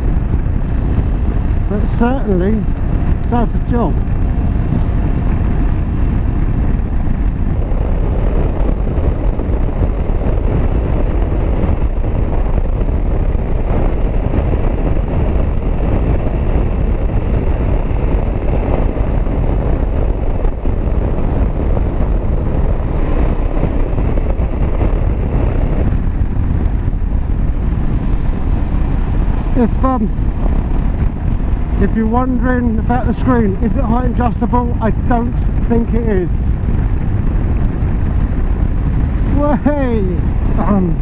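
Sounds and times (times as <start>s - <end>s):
motorcycle engine running: 0.0s - 41.0s
wind rushing on microphone: 0.0s - 41.0s.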